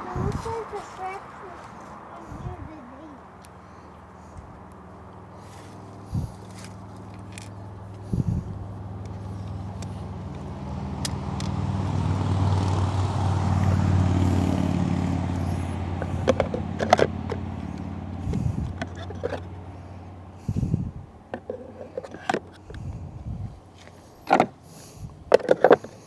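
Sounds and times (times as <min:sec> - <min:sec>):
motor vehicle running: 0:00.0 - 0:26.0.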